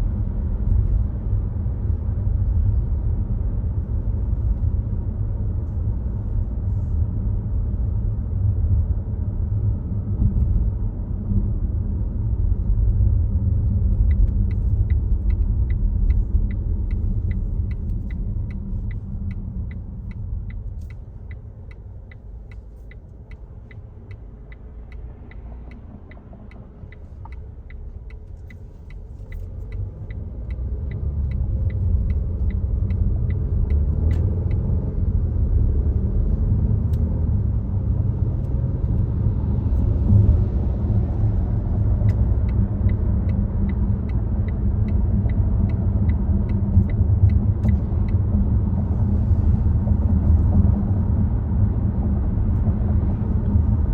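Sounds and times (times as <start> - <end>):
road and tyre rumble: 0.0 - 53.9
turn signal ticking: 10.1 - 53.9.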